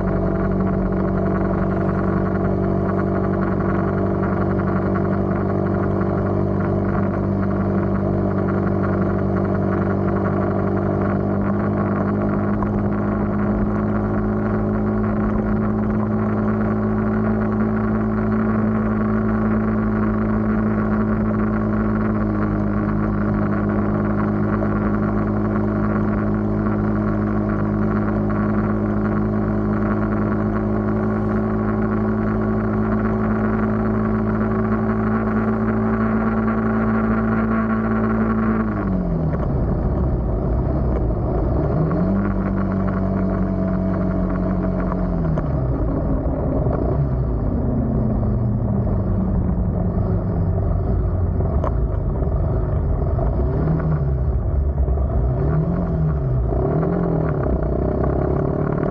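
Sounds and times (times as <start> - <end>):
vehicle engine droning: 0.0 - 58.9.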